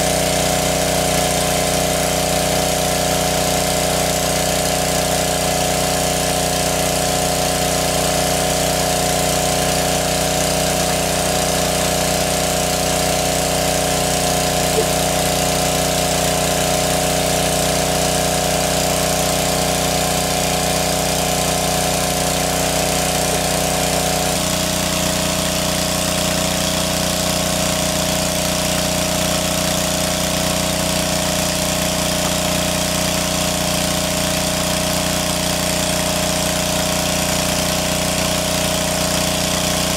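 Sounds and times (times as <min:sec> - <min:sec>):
engine-driven water pump running: 0:00.0 - 0:39.9.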